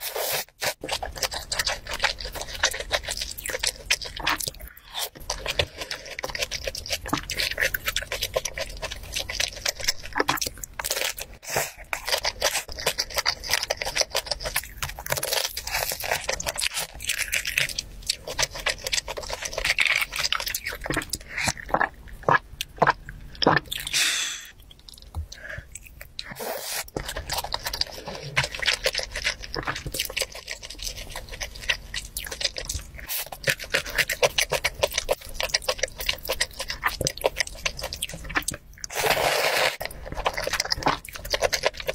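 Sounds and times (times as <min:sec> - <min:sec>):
chewing and crunching food: 0:00.0 - 0:41.9.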